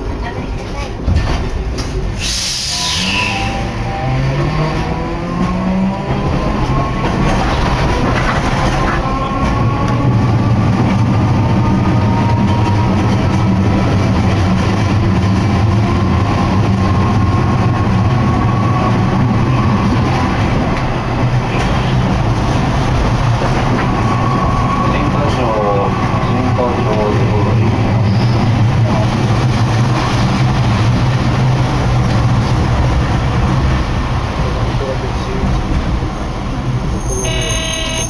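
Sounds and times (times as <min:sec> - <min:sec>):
streetcar low rumble: 0:00.0 - 0:38.0.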